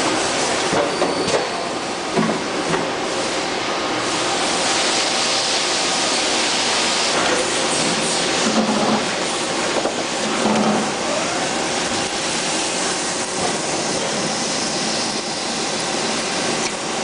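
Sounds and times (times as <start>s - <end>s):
lathe whirring and hissing: 0.0s - 17.0s.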